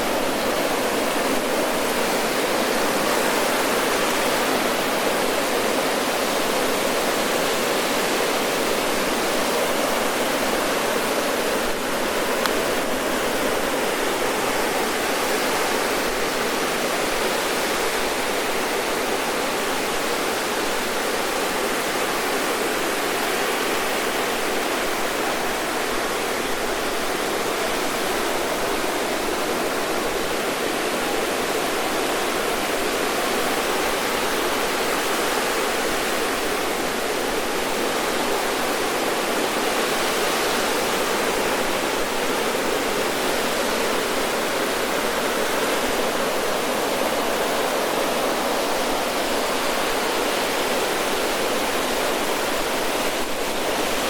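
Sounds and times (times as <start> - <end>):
ocean surf on beach: 0.0 - 54.0.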